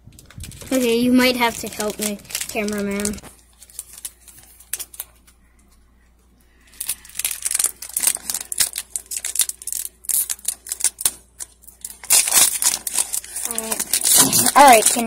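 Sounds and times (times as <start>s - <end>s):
foil wrapper crinkling: 0.0s - 5.8s, 6.6s - 15.0s.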